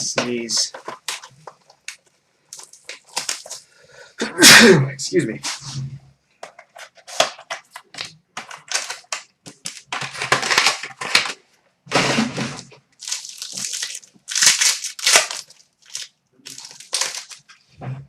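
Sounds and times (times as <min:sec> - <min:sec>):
plastic wrapper crinkling and tearing: 0:00.0 - 0:03.8, 0:06.4 - 0:12.0, 0:12.6 - 0:17.7.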